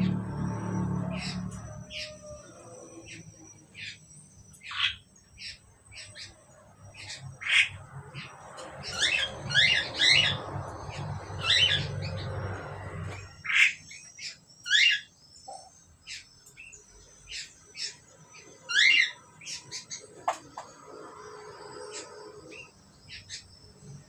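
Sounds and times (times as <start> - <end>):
starlings squawking: 0.0 - 24.0.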